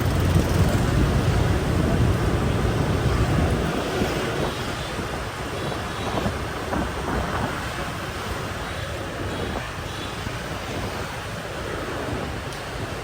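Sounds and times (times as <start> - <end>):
road and traffic noise: 0.0 - 13.0
wind buffeting microphone: 0.0 - 13.0.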